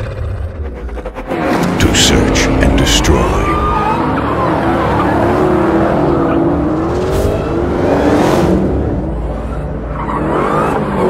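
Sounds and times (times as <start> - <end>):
car engine revving hard: 1.3 - 11.0.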